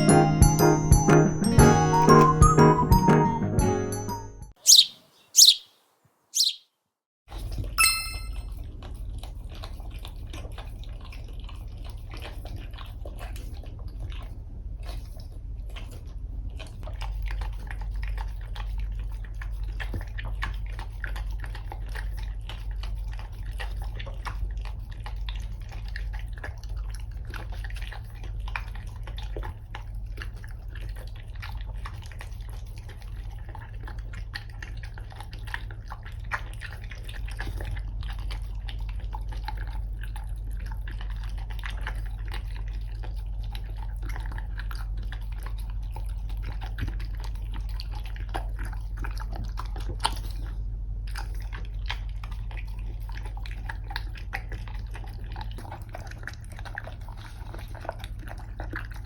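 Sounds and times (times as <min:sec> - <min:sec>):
dog chewing and licking: 0:08.5 - 0:59.0.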